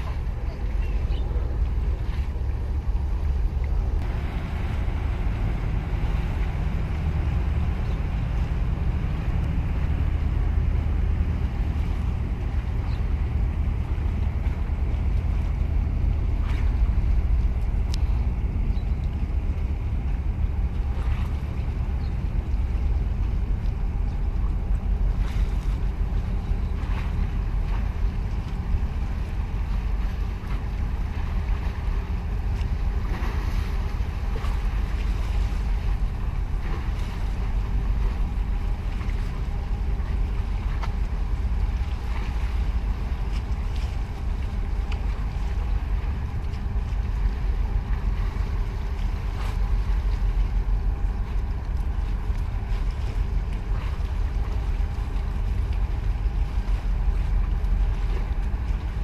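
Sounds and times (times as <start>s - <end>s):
faint steady hum: 0.0s - 59.0s
ship engine rumbling: 0.0s - 59.0s
wind buffeting microphone: 0.0s - 59.0s.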